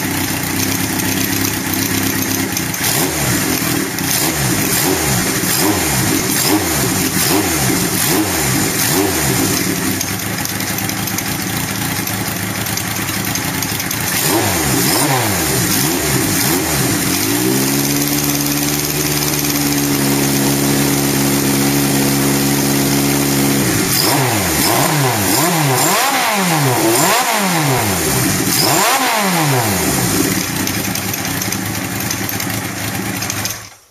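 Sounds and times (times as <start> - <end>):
motorcycle engine revving: 0.0 - 33.8.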